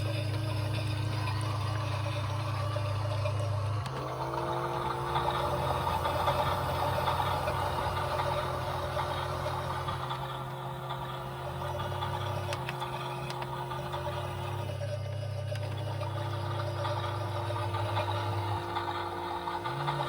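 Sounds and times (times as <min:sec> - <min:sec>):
motor rising whine: 0:00.0 - 0:20.0
small motors humming: 0:00.0 - 0:20.0.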